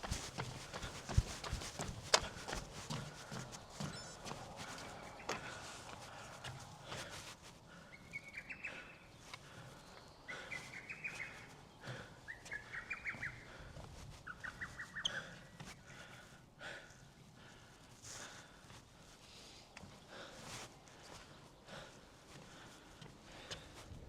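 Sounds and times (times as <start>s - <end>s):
faint footsteps on ground: 0.0s - 24.0s.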